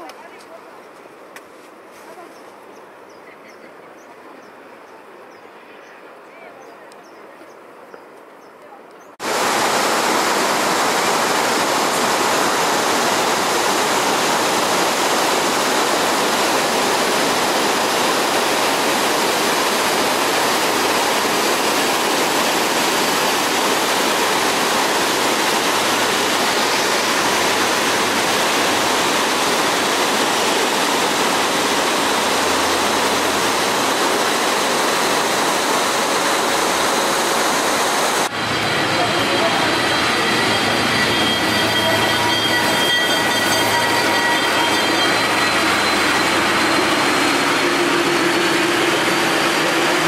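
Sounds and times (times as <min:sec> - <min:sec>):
river rapids rushing over boulders: 0:09.2 - 0:50.0.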